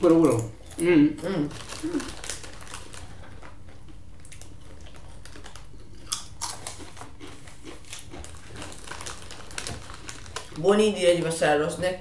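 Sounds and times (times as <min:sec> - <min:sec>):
foil chip bag crinkling: 0:00.0 - 0:11.8.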